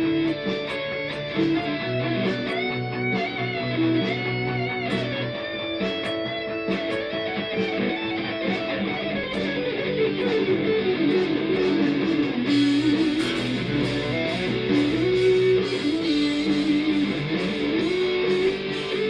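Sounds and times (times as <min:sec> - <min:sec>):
backing track: 0:00.0 - 0:19.0
drums with cymbals: 0:00.0 - 0:19.0
electric guitar lead melody: 0:00.0 - 0:19.0.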